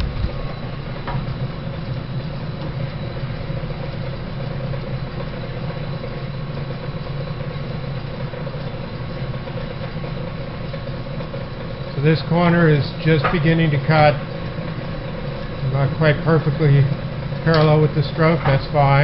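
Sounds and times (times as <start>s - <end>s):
metal planer humming: 0.0s - 19.0s.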